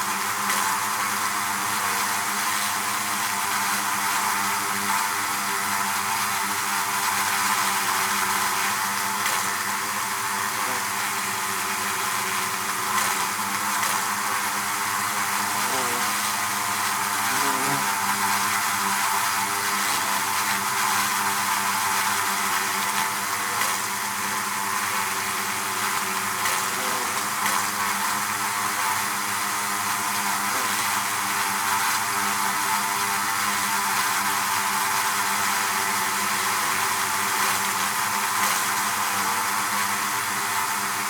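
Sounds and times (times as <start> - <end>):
bees buzzing in hive: 0.0 - 41.0.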